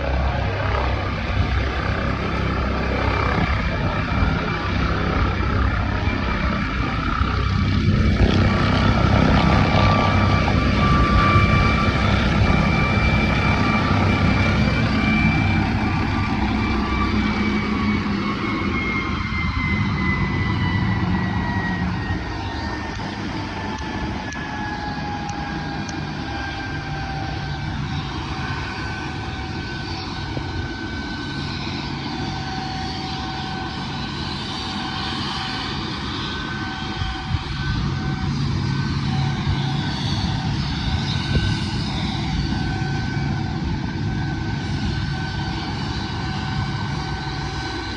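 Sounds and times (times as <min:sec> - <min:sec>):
helicopter rotor beat: 0:00.0 - 0:47.9
helicopter turbine whine: 0:00.0 - 0:47.9.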